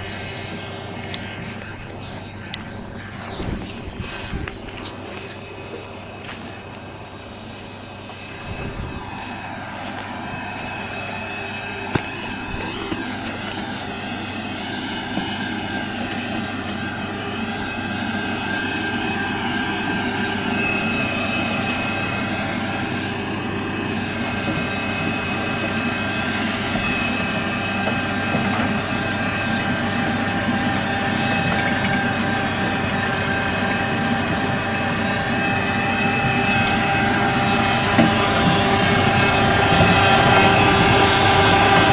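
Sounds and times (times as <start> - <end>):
engine running with whining tones: 0.0 - 41.9.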